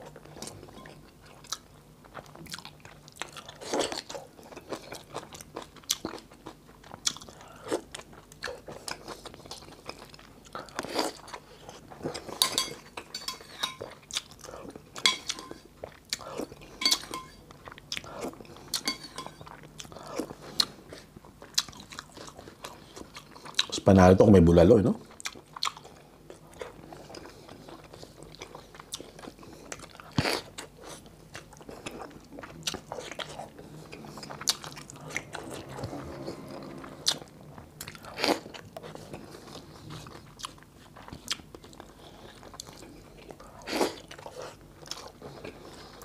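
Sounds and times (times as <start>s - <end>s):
person chewing with wet smacks: 0.0s - 13.1s, 13.8s - 23.8s, 25.1s - 36.1s, 37.0s - 46.0s.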